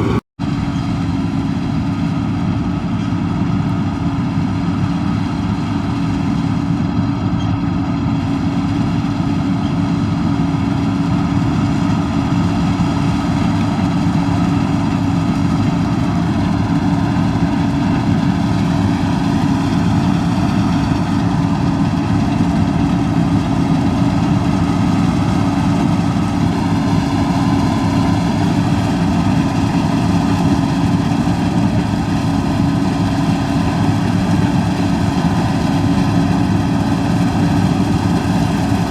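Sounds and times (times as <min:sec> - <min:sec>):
combine harvester drone: 0:00.0 - 0:38.9.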